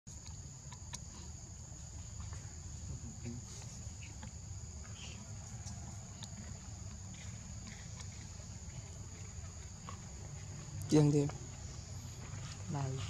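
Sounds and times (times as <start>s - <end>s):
insects droning: 0.1s - 13.0s.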